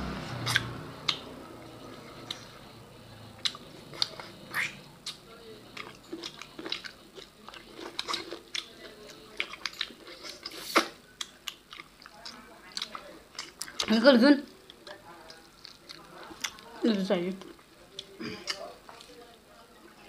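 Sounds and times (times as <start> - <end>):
people chewing: 0.3 - 20.0.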